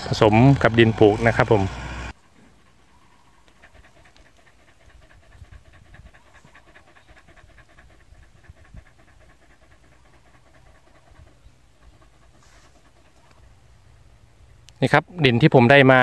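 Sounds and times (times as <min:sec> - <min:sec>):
dog panting: 0:00.0 - 0:14.7.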